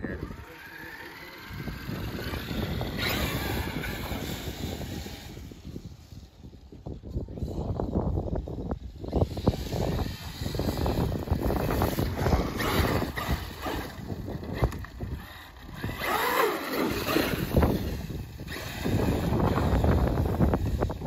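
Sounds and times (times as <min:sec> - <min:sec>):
toy truck motor whining: 0:00.0 - 0:06.6, 0:08.7 - 0:21.0
wind rumble on microphone: 0:00.0 - 0:21.0.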